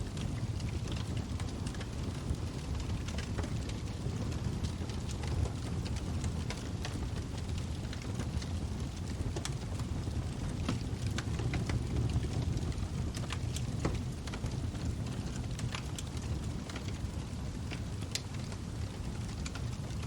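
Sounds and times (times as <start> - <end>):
burning wood crackling: 0.0 - 20.0
flames rumbling: 0.0 - 20.0.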